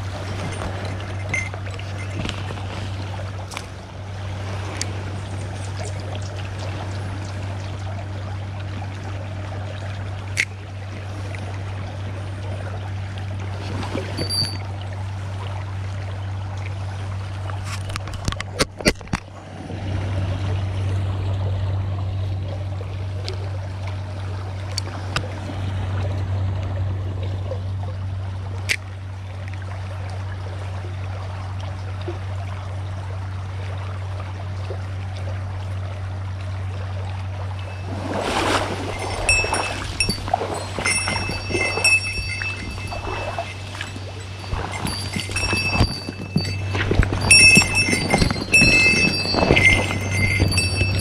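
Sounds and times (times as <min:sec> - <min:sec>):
steady low hum: 0:00.0 - 0:18.0, 0:19.3 - 0:51.0
river water flowing: 0:00.0 - 0:51.0.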